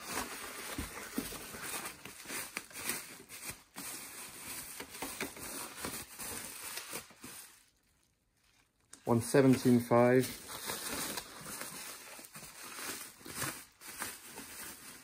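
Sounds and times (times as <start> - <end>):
bubble wrap rustling and crinkling: 0.0 - 15.0.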